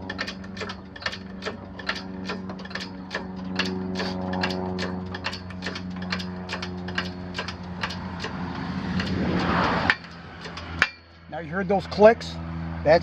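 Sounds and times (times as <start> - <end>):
lift arms clicking: 0.0 - 11.0
steady mechanical hum: 0.0 - 13.0.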